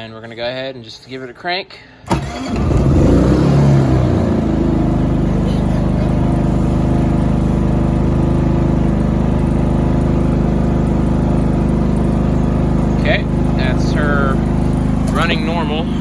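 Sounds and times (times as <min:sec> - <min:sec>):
generator engine running: 0:02.0 - 0:16.0.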